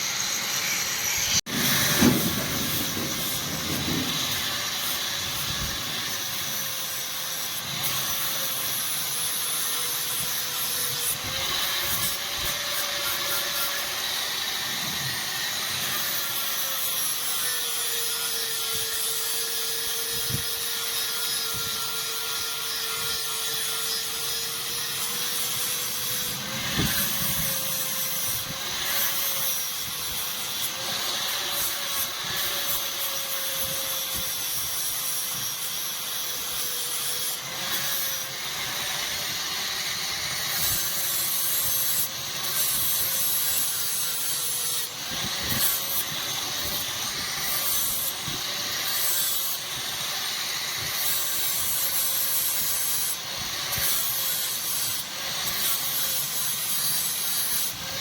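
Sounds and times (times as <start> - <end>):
electric grinder grinding steel: 0.0 - 58.0.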